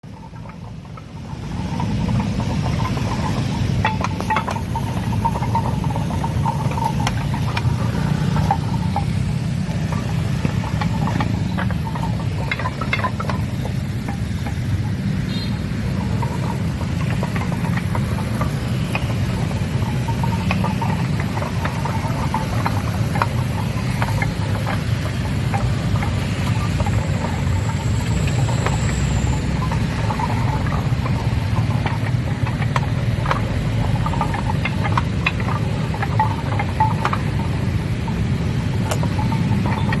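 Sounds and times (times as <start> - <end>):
low engine rumble: 0.0 - 40.0
paving blocks clinking: 0.0 - 40.0.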